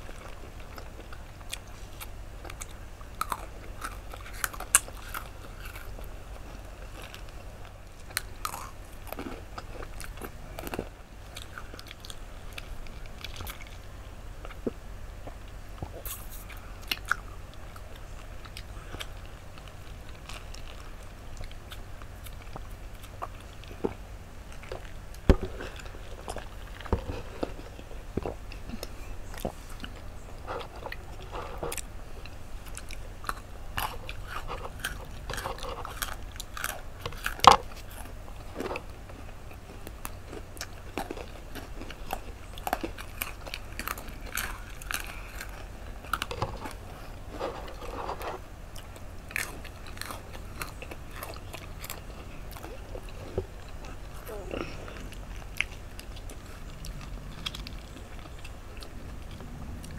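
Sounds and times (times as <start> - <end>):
crunching and chewing snacks: 0.0 - 59.9.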